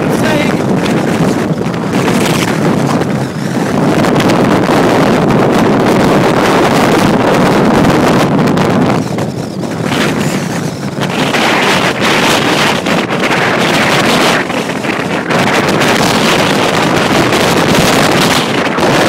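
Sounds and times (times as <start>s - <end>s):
wind gusts on microphone: 0.0s - 19.0s.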